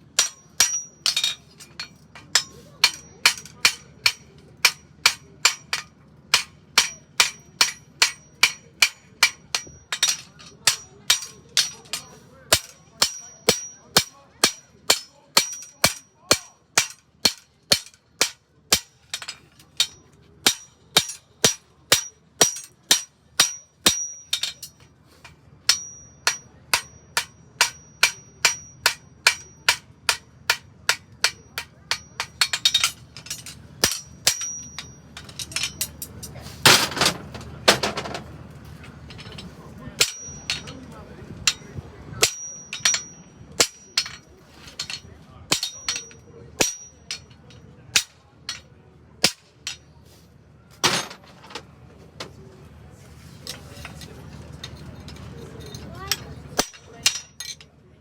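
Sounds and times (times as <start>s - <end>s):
hammer striking on anvil: 0.1s - 24.9s, 25.7s - 36.8s, 39.1s - 40.9s, 41.5s - 49.8s, 56.1s - 57.7s.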